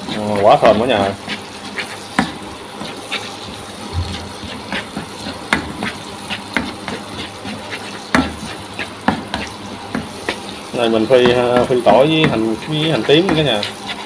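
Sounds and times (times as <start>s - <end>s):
garlic sizzling in hot oil: 0.0s - 14.0s
wooden spatula scraping a pan: 0.0s - 14.0s.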